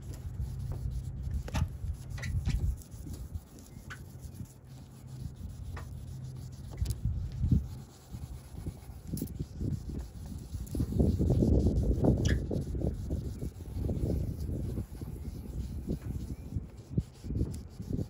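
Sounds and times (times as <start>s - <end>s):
pad scrubbing plastic lens: 0.0s - 18.0s
steady low hum: 0.0s - 18.0s.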